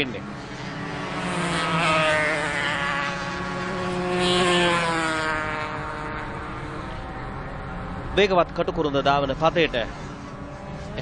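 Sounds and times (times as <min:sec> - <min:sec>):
race motorcycles passing at speed: 0:00.0 - 0:11.0.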